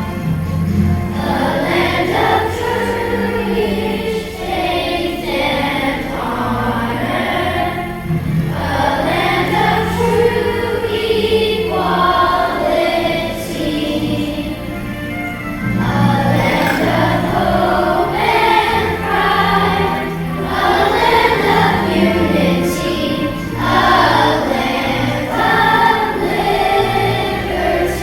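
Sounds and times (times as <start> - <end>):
choir singing: 0.0 - 28.0
musical accompaniment: 0.0 - 28.0.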